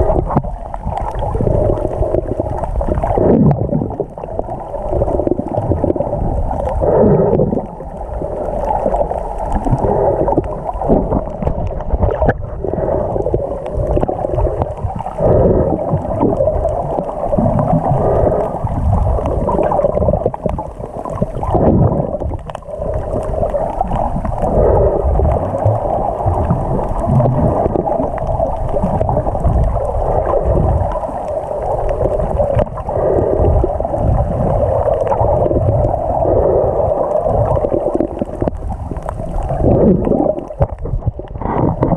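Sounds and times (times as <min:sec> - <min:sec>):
underwater churning and gurgling: 0:00.0 - 0:41.9.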